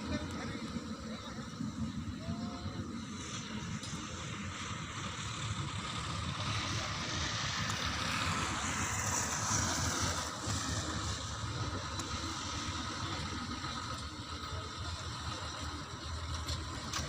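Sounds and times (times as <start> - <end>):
diesel machinery rumbling: 0.0 - 17.0.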